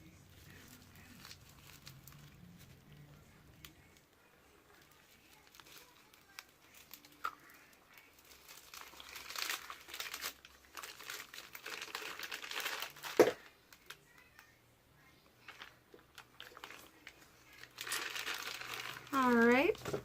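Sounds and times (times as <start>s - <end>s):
plastic piping bag crinkling: 0.0s - 14.5s, 15.4s - 20.0s.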